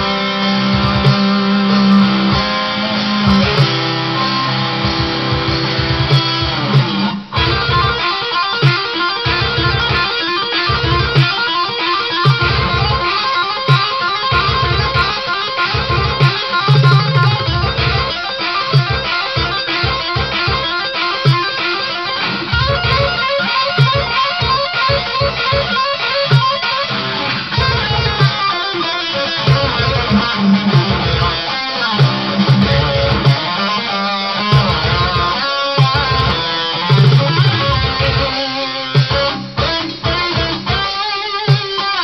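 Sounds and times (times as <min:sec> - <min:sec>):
distorted electric guitar metal: 0:00.0 - 0:42.0.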